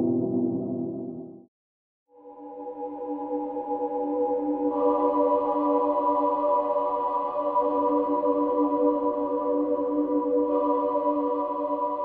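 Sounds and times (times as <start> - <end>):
ambient music held chord: 2.2 - 12.0.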